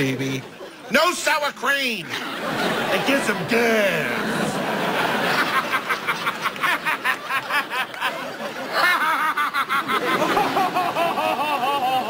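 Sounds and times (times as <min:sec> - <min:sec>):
young man laughing hysterically: 0:02.2 - 0:12.0.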